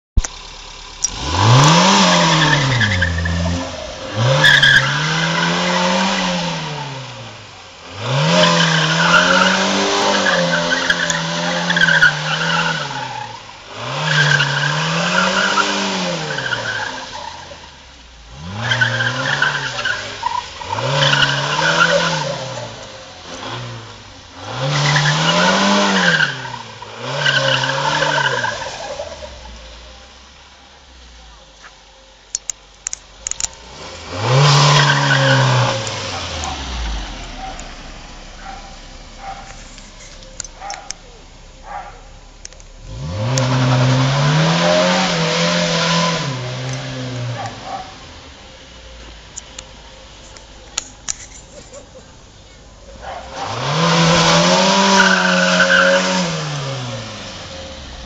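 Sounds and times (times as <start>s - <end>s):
car engine revving: 0.2s - 58.0s
tyres squealing: 1.0s - 7.0s, 8.1s - 29.7s, 34.1s - 57.9s.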